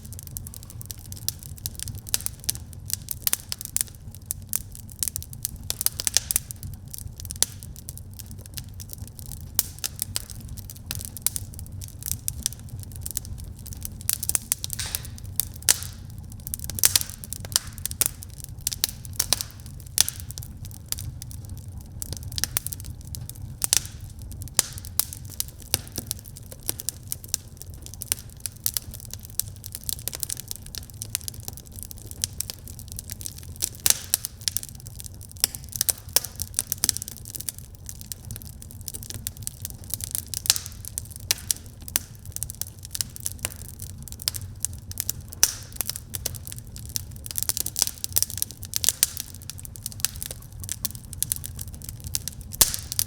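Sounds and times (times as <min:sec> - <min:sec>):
low rumble of burning logs: 0:00.0 - 0:53.0
wood fire crackling: 0:00.0 - 0:53.0.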